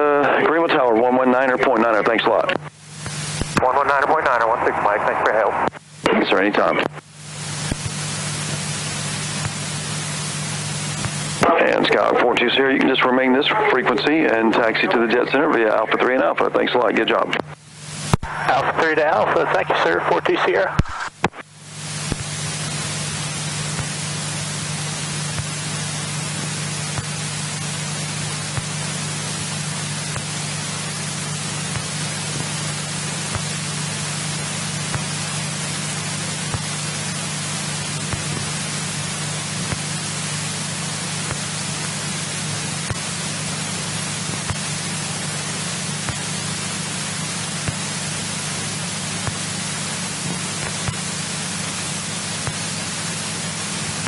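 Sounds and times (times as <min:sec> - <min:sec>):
aircraft engine low hum: 0:00.0 - 0:54.0
intercom hiss: 0:00.0 - 0:54.0.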